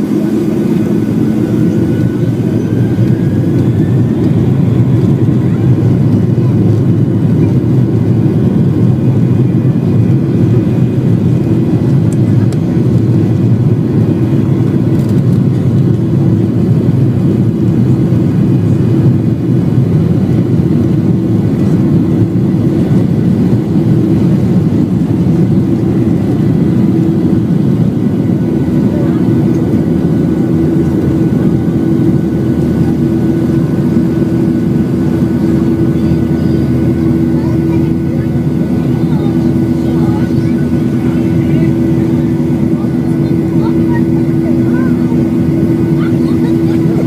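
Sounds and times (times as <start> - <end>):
constant engine hum: 0.0 - 47.0
jet engines rumbling in cabin: 0.0 - 47.0.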